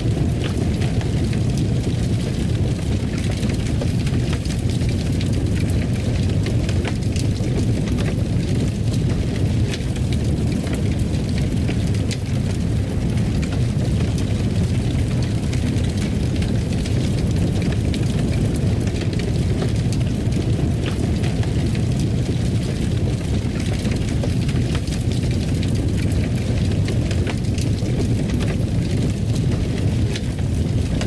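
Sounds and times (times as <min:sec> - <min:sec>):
fire roaring and crackling: 0:00.0 - 0:31.0.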